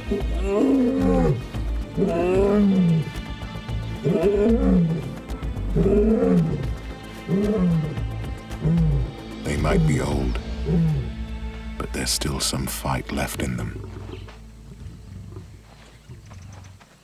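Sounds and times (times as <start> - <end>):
lions roaring: 0.0 - 3.2, 3.9 - 11.2, 13.4 - 16.8.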